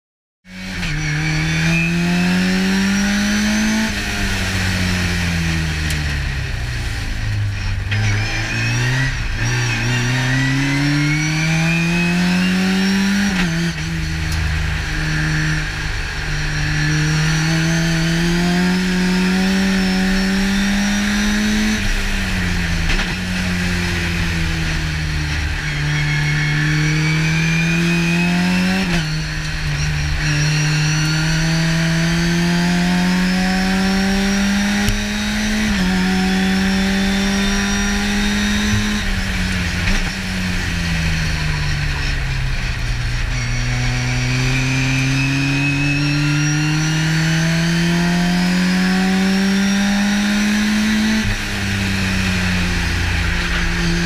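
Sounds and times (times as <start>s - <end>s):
race car engine accelerating: 0.5s - 54.0s.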